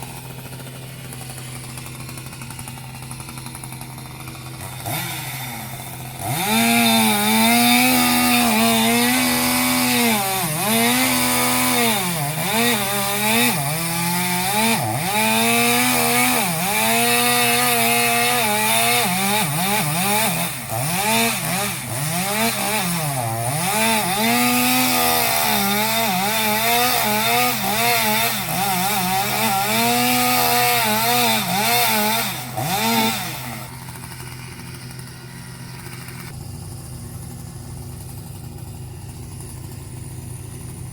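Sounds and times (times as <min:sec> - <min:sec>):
chainsaw cutting: 0:00.0 - 0:40.9.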